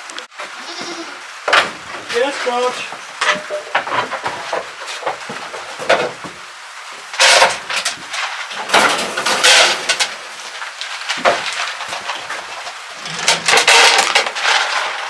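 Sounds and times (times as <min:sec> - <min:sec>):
rustling and scraping: 0:00.3 - 0:15.0
scattered knocks: 0:01.5 - 0:06.5, 0:07.2 - 0:14.9.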